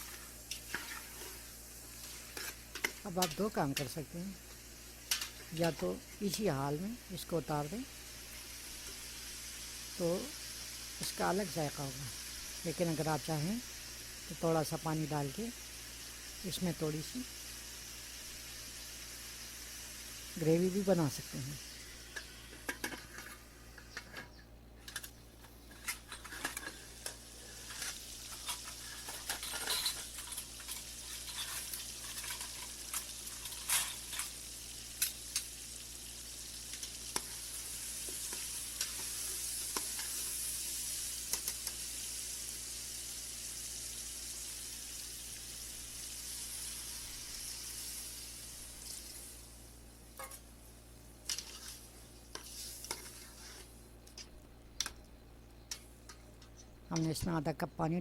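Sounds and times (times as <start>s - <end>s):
water hissing in hot pan: 0.0s - 24.0s, 25.0s - 54.2s
chicken sizzling in a pan: 0.0s - 55.0s.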